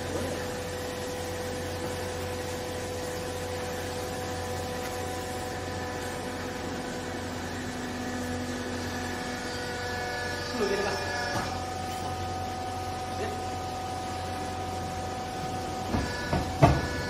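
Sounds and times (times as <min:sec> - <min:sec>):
hydraulic baler motor humming: 0:00.0 - 0:17.0.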